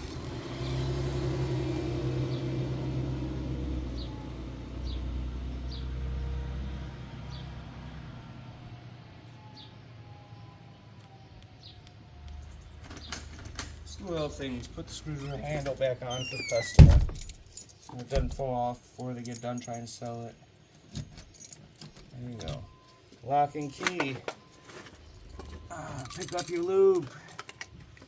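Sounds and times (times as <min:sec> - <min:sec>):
vehicle engine rumbling: 0:00.0 - 0:19.2, 0:20.8 - 0:28.0.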